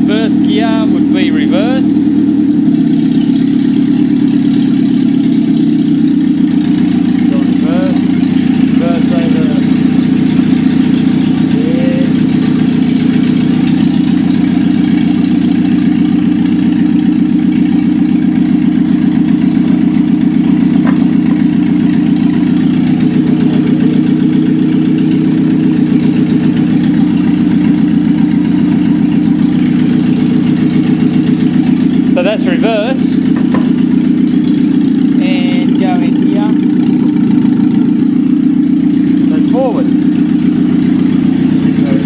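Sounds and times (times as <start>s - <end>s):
engine idling loudly: 0.0s - 42.0s.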